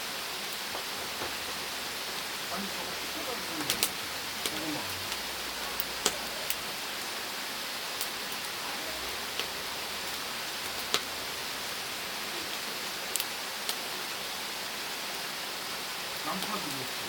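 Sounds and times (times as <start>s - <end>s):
fire crackling and popping: 0.0s - 17.0s
fire hissing: 0.0s - 17.0s.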